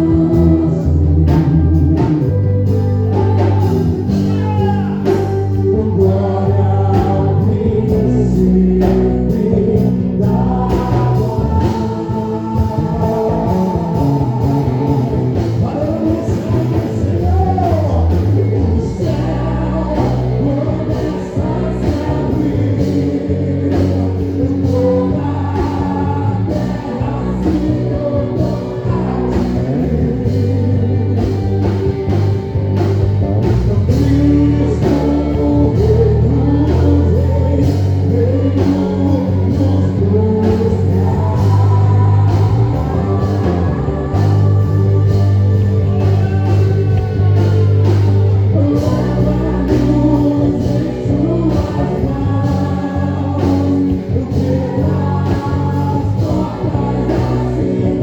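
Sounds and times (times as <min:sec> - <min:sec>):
bass line: 0:00.0 - 0:58.0
drum beats: 0:00.0 - 0:58.0
person singing: 0:00.0 - 0:58.0.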